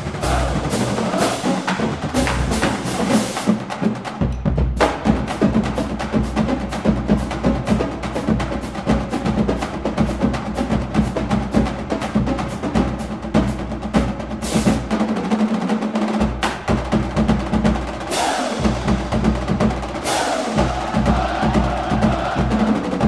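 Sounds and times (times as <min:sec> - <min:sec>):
drum-heavy percussion music: 0:00.0 - 0:23.0.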